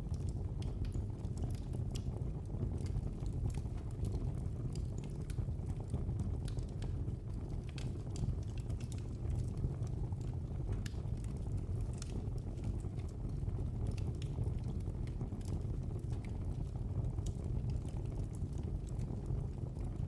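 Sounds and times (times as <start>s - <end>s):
fireplace fire crackling: 0.0s - 20.0s.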